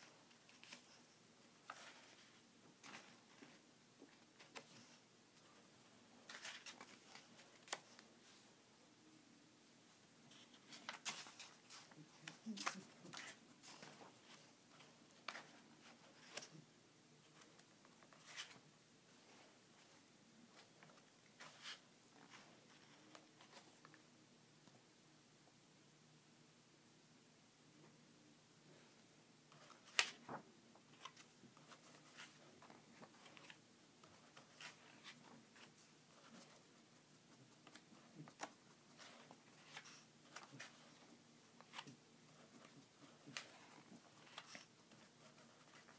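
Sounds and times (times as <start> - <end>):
pages turning: 0.0 - 5.5, 6.2 - 8.1, 10.3 - 16.6, 17.2 - 24.0, 29.5 - 45.9.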